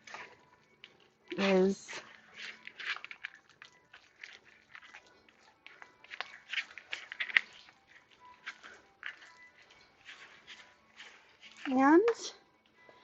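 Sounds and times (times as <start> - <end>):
spatula squishing and scraping bowl: 0.0 - 13.0.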